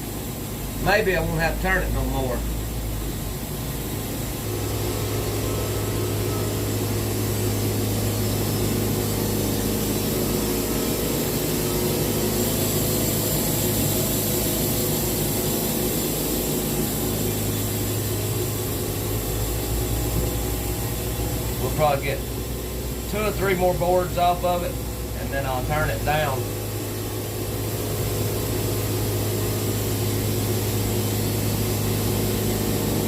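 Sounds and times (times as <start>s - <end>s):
sawmill engine running under load: 0.0s - 33.0s.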